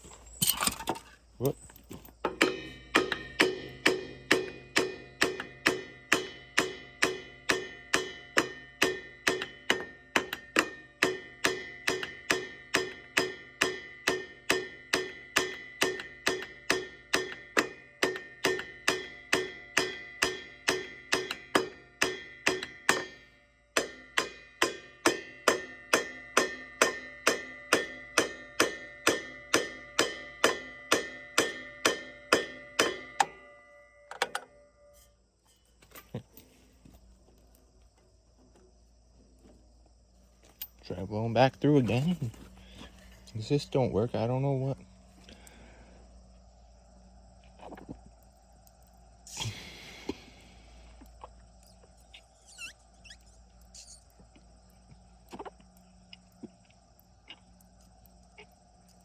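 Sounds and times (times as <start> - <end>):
metallic tapping on carburetor: 0.0 - 59.0.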